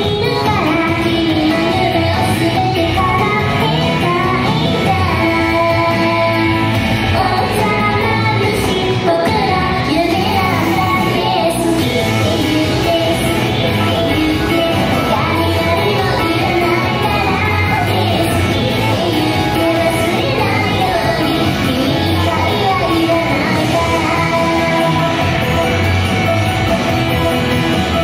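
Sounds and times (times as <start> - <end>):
pop song with vocals: 0.0 - 28.0.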